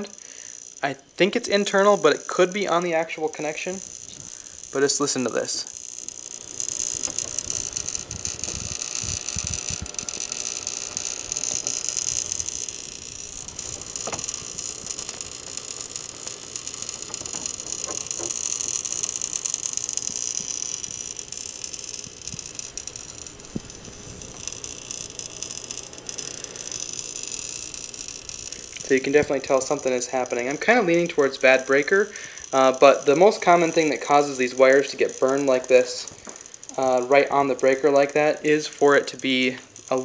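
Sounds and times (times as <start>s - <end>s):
electrical arcing hiss and crackles: 0.0s - 40.0s.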